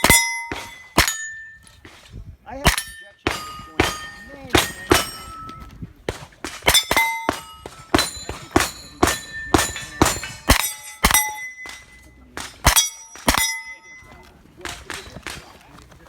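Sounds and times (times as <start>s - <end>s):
steel plate clanging: 0.0s - 15.4s.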